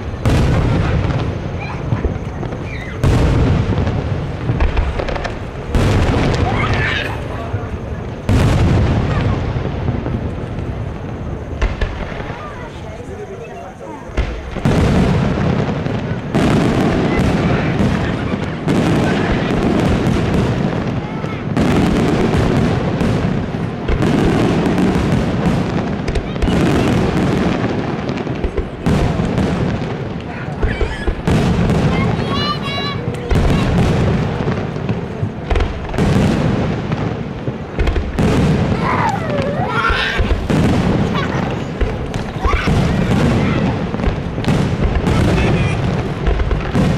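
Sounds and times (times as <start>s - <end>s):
firework shells bursting: 0.0s - 46.9s.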